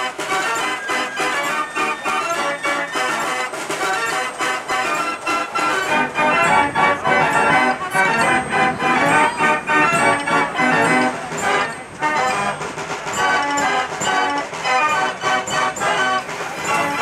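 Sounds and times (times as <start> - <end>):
fairground organ playing: 0.0 - 17.0.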